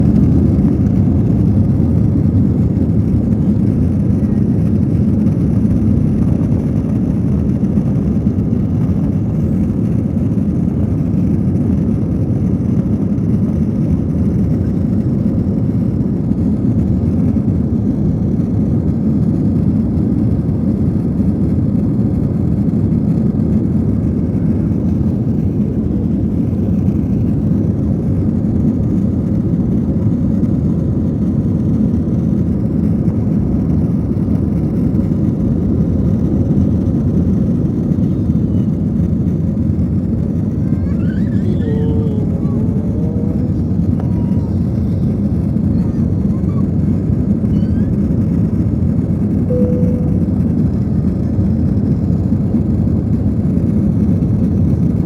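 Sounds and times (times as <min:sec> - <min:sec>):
aeroplane taking off rumble: 0:00.0 - 0:55.0.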